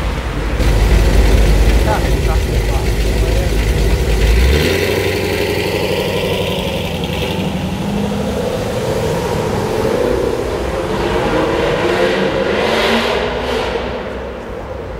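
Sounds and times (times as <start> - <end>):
car engine accelerating hard: 0.0 - 14.9.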